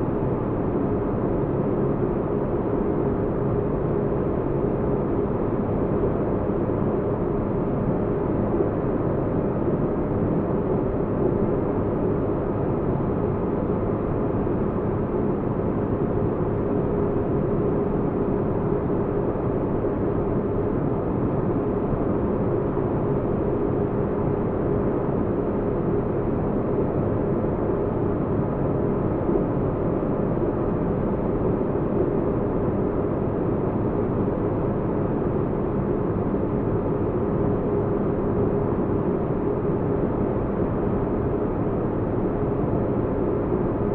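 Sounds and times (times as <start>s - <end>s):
faint constant hum: 0.0s - 43.9s.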